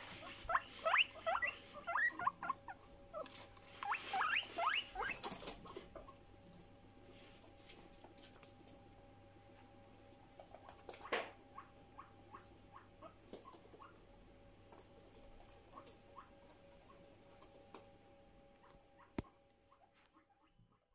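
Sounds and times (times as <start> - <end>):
guinea pig squeaking: 0.0 - 6.8, 10.1 - 20.9
faint steady hum: 0.0 - 20.9.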